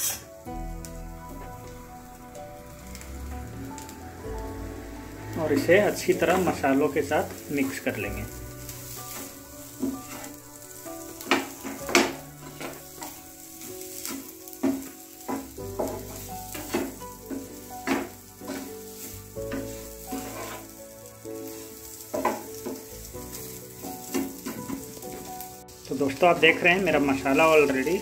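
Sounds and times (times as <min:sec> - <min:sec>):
light sizzle: 0:00.0 - 0:28.0
spatula scraping pan: 0:04.7 - 0:20.8, 0:21.4 - 0:28.0.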